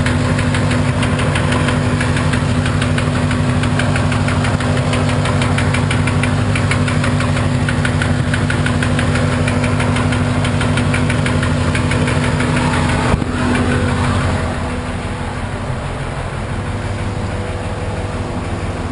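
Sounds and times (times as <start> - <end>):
car engine idling with knock: 0.0 - 18.9.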